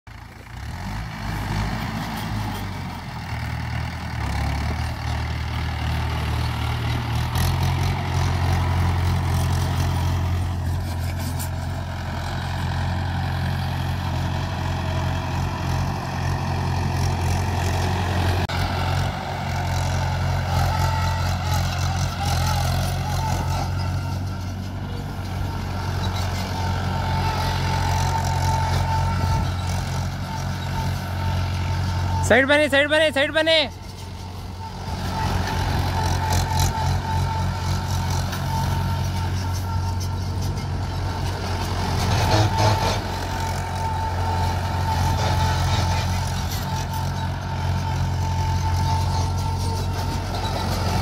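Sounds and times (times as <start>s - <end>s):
tractor diesel engine running: 0.1s - 51.0s.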